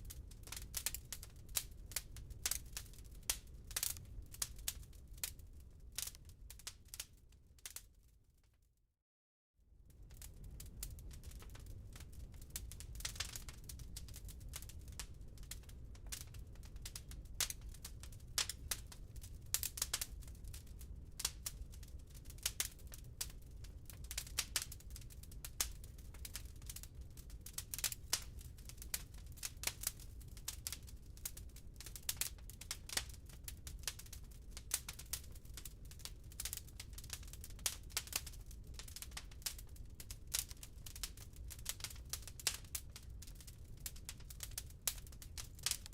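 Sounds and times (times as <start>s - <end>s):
low rumble of fire: 0.0s - 8.5s, 9.6s - 45.9s
firewood crackling and snapping: 0.1s - 5.4s, 6.0s - 7.1s, 10.1s - 45.9s.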